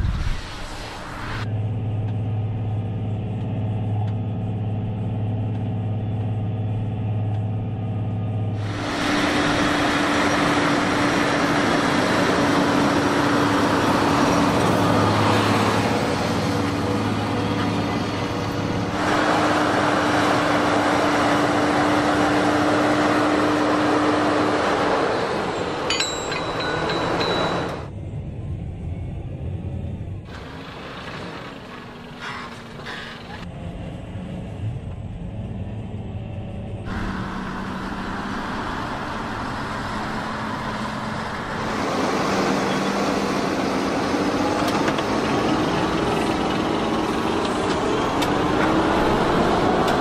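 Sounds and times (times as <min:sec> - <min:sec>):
tractor diesel engine under load: 0:01.4 - 0:27.9, 0:30.2 - 0:50.0.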